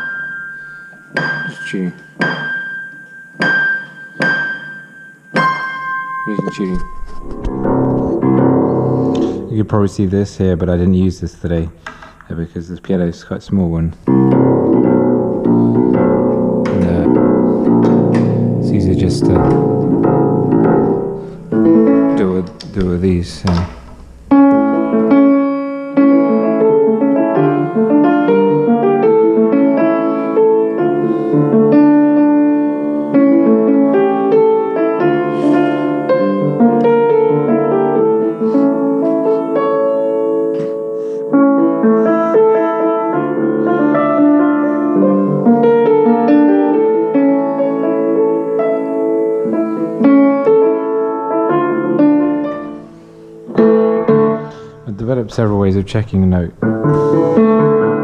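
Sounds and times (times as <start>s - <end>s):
piano playing: 0.0s - 11.8s, 13.7s - 58.0s.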